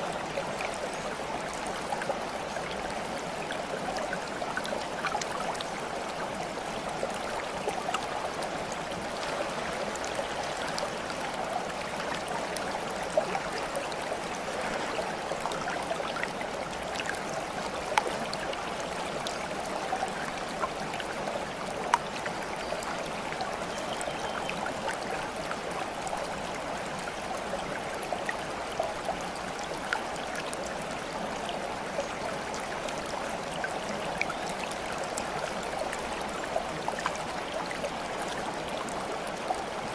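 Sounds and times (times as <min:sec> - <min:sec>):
running water babbling: 0:00.0 - 0:39.9
water drips and splashes: 0:00.0 - 0:39.9.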